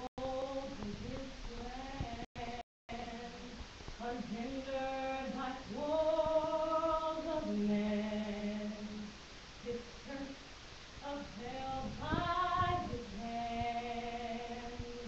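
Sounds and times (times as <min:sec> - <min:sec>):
woman singing sustained notes: 0:00.0 - 0:10.4, 0:11.0 - 0:15.0.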